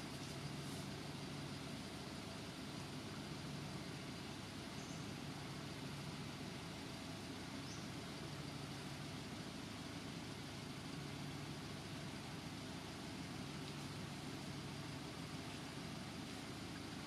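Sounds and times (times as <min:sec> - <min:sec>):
background hiss: 0:00.0 - 0:17.0
engine idling hum: 0:00.0 - 0:17.0.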